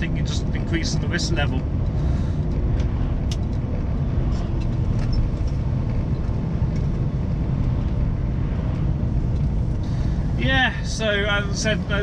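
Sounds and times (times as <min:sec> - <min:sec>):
lorry engine rumble: 0:00.0 - 0:12.0.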